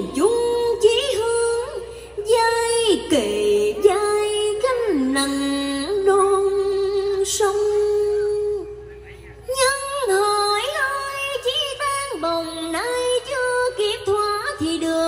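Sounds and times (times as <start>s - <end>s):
woman singing slow vocal line: 0.0s - 8.8s, 9.4s - 15.0s.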